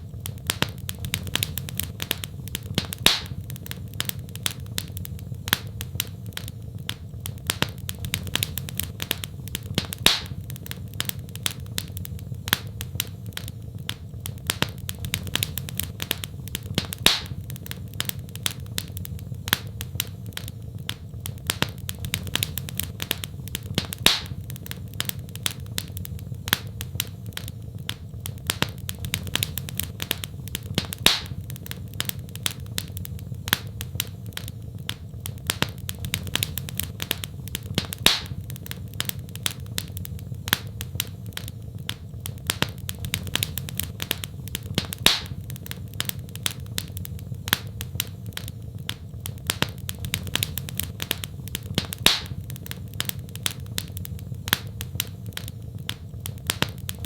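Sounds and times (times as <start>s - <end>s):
fire popping: 0.0s - 57.0s
low fire rumble: 0.0s - 57.0s
wood fire crackling: 0.0s - 57.0s.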